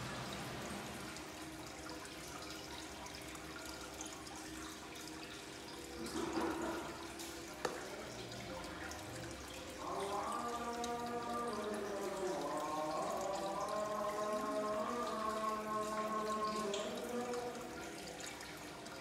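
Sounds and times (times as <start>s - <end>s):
aquarium water bubbling: 0.0s - 19.0s.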